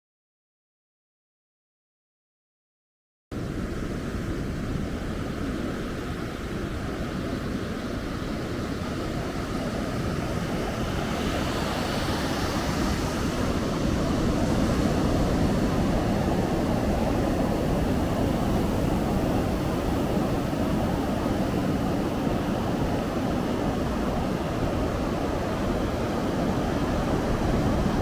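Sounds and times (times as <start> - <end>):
ocean surf rushing: 3.4 - 28.0
wind rumble on microphone: 3.4 - 28.0.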